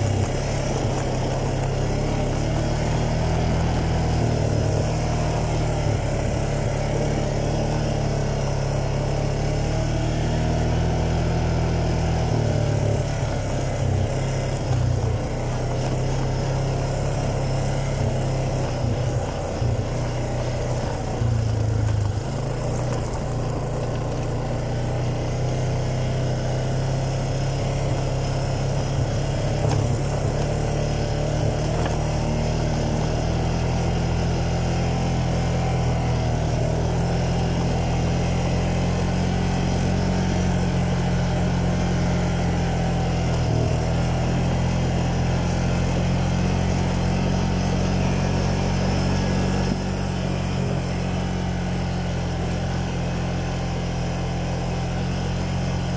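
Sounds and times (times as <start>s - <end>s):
quad bike engine running: 0.0s - 55.9s.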